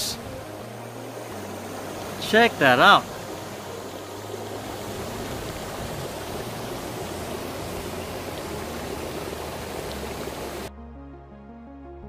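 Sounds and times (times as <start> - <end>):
hot spring water bubbling: 0.0 - 10.7.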